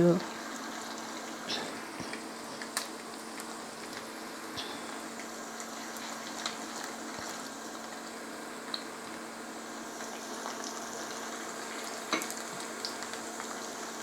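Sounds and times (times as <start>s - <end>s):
chicken sizzling in oil: 0.0s - 14.0s
oil popping and crackling: 0.2s - 14.0s.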